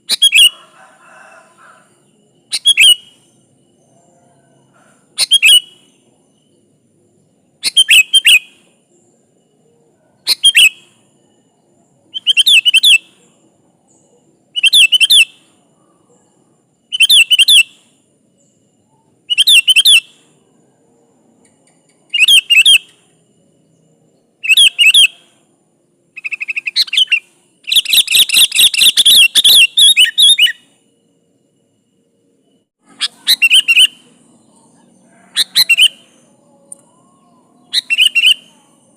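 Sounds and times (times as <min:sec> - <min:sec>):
bulbul singing: 0:00.0 - 0:00.8, 0:01.5 - 0:25.5, 0:26.1 - 0:31.1, 0:32.8 - 0:38.9.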